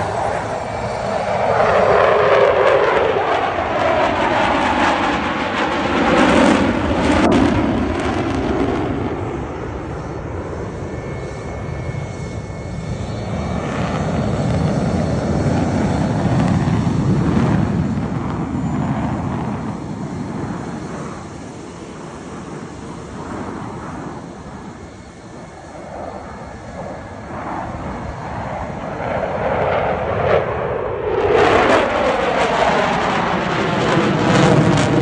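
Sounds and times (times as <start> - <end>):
jet roar overhead: 0.0 - 35.0.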